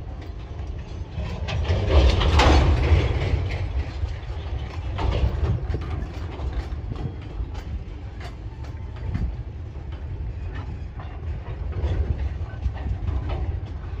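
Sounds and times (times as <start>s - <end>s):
low rumble of train: 0.0s - 14.0s
train wheels clattering over rail joints: 0.0s - 14.0s.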